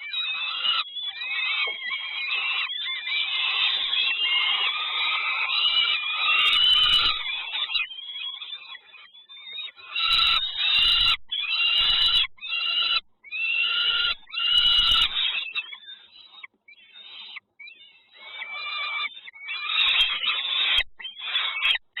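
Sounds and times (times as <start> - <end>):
nestling birds begging calls: 0.0 - 22.0.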